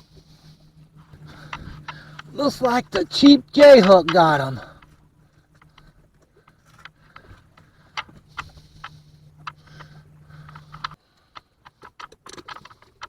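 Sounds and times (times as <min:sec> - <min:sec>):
clicks and knocks handling fish: 0:00.0 - 0:13.0
steady low hum: 0:00.0 - 0:13.0.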